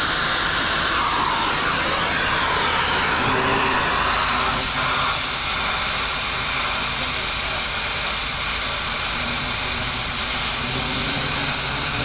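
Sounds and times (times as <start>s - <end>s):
metal-cutting tool cutting metal: 0.0s - 12.0s.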